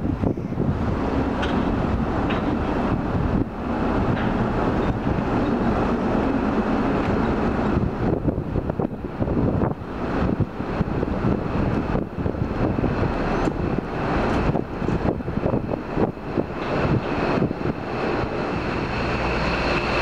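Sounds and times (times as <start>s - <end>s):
ferry engine rumble: 0.0s - 20.0s
wind buffeting microphone: 0.0s - 20.0s.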